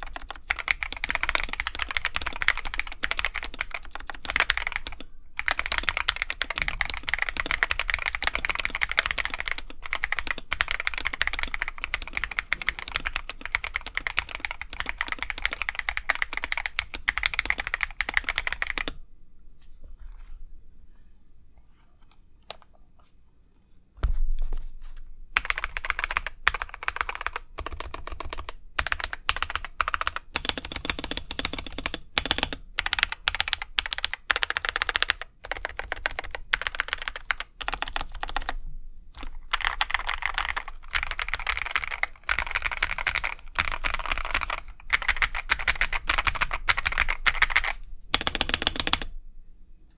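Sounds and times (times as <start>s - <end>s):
typing on mechanical keyboard: 0.0s - 19.0s, 25.4s - 38.6s, 39.2s - 49.1s.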